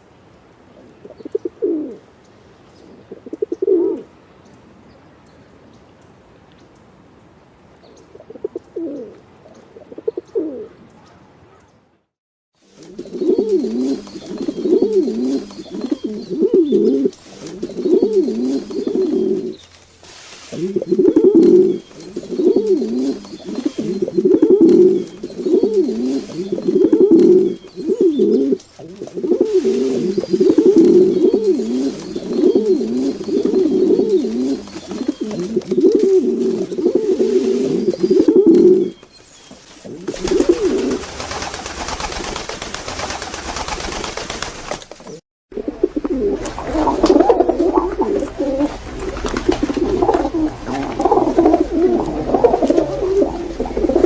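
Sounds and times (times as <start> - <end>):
pigeons cooing: 0.8 - 2.0, 2.8 - 4.1, 8.1 - 11.6, 12.7 - 54.0.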